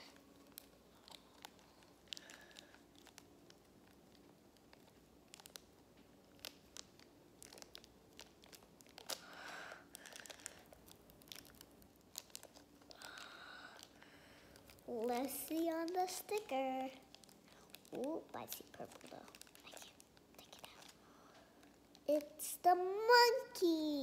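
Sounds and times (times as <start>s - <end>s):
plastic wrapper crinkling and tearing: 0.0s - 24.0s.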